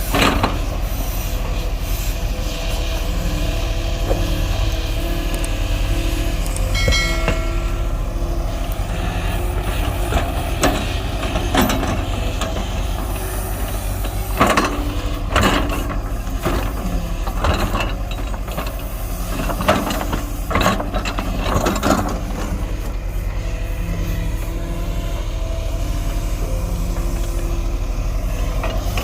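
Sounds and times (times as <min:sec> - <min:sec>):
heavy machinery diesel engine: 0:00.0 - 0:29.0.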